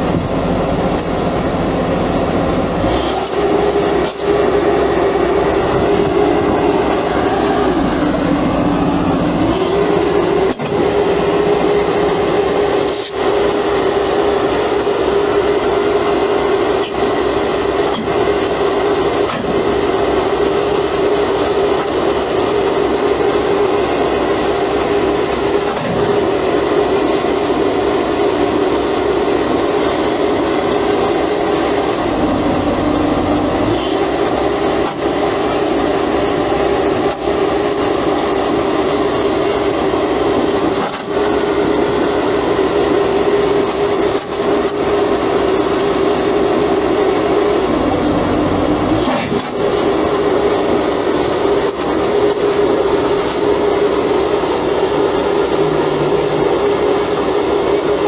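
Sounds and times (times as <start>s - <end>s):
loud steady machine drone: 0.0s - 58.0s.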